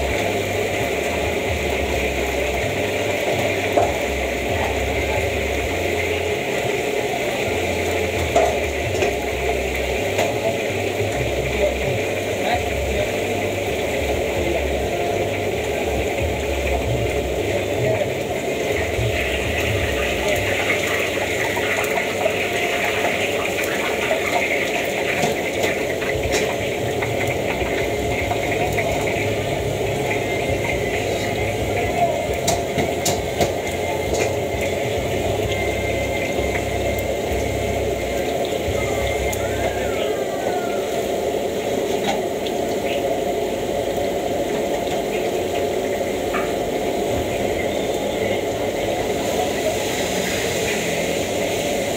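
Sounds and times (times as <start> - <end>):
gas burner rushing: 0.0 - 51.9
hot liquid hissing and bubbling: 0.0 - 51.9.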